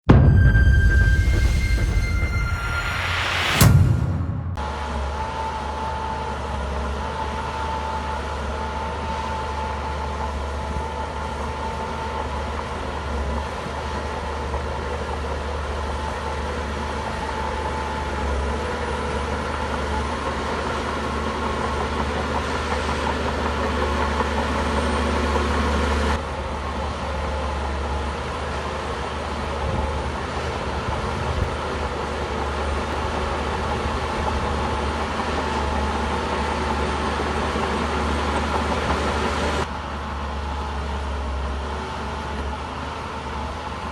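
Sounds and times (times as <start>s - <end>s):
bulldozer diesel engine droning: 0.1s - 43.9s.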